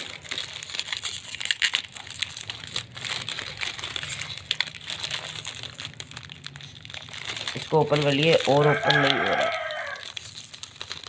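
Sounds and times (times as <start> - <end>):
snack packet crinkling: 0.0 - 11.0.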